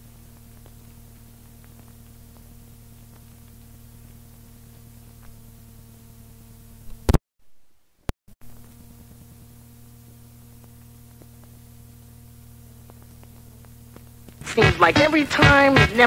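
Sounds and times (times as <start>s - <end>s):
steady electrical hum: 0.0s - 16.0s
tape hiss: 0.0s - 16.0s.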